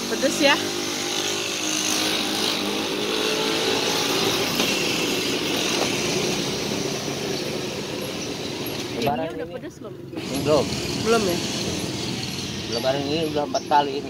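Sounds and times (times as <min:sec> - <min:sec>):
motor traffic: 0:00.0 - 0:14.0
motorcycle engine: 0:00.0 - 0:14.0.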